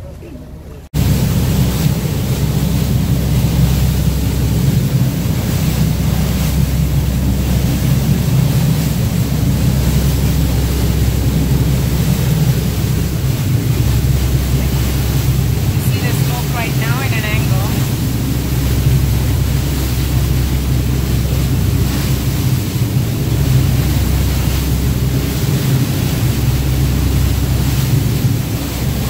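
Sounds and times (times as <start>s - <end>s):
boat engine drone: 0.0s - 29.0s
water rushing past hull: 0.0s - 29.0s
wind buffeting microphone: 0.9s - 29.0s.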